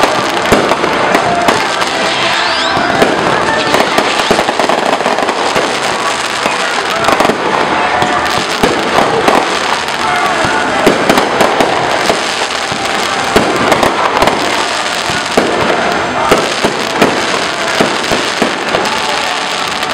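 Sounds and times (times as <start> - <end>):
firework crackle: 0.0 - 19.9.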